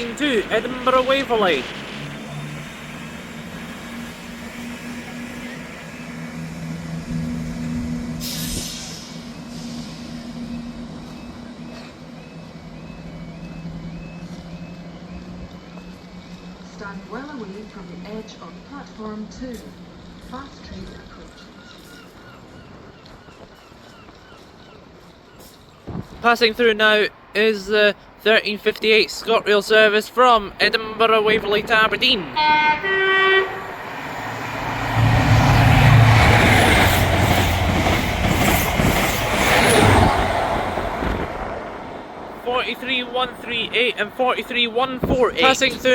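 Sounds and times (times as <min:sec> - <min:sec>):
train engine humming: 0:00.0 - 0:45.9.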